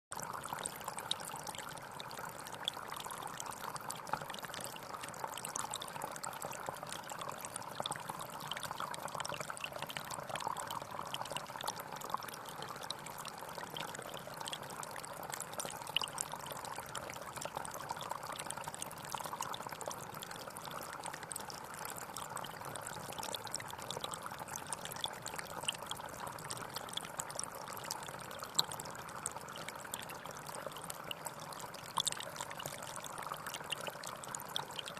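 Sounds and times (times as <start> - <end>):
water pouring into water: 0.2 - 34.9.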